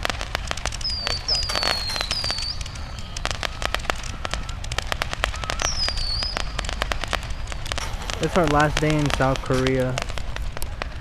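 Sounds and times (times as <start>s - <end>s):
firework whistles: 0.0s - 11.0s
fireworks crackling and popping: 0.0s - 11.0s.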